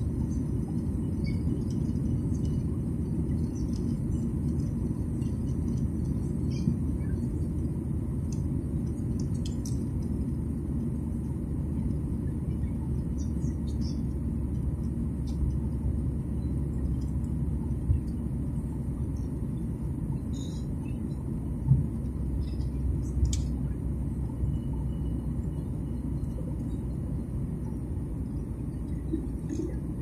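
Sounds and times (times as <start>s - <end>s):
jet airliner cabin rumble: 0.0s - 30.0s.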